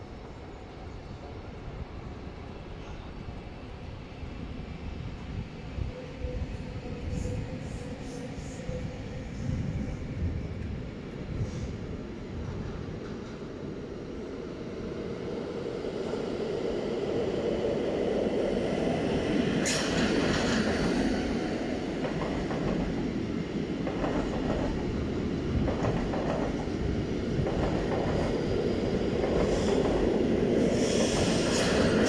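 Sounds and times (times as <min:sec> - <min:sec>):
train rumbling over tracks: 0:00.0 - 0:32.0.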